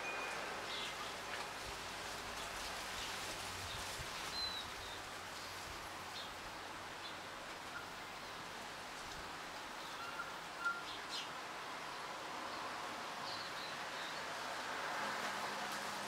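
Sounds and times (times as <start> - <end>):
wind rustling through leaves: 0.0 - 16.0.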